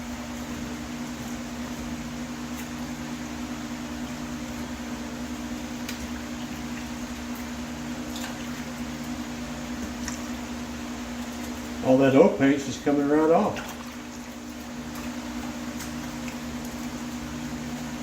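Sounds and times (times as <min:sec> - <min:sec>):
mechanical hum: 0:00.0 - 0:18.0.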